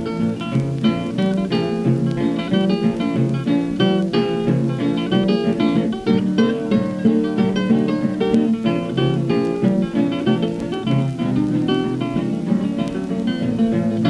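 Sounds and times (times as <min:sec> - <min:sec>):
acoustic guitar plucking: 0:00.0 - 0:14.0.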